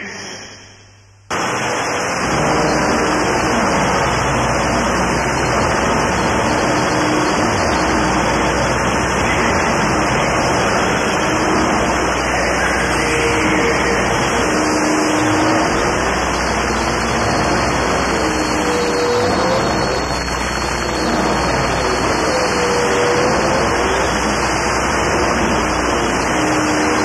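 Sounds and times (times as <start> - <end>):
harsh noise music: 1.3 - 27.0.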